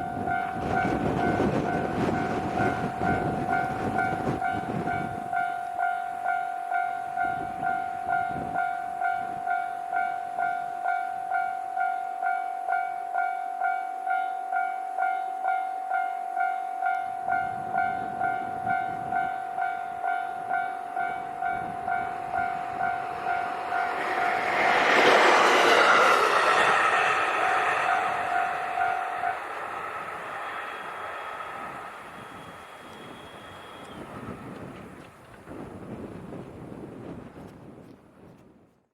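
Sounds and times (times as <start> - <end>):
approaching railcar: 0.0 - 38.8.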